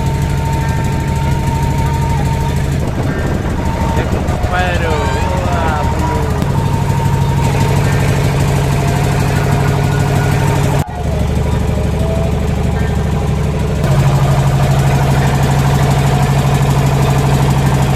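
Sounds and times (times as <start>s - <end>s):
boat engine pulsing: 0.0s - 17.9s.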